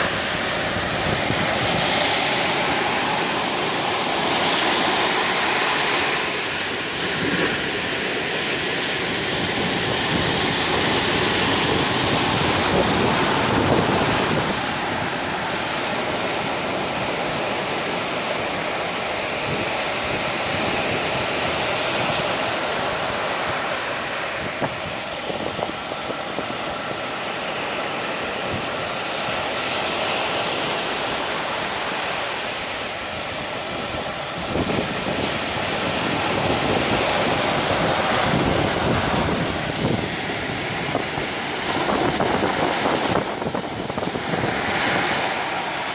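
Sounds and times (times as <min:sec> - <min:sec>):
sea waves breaking: 0:00.0 - 0:45.9.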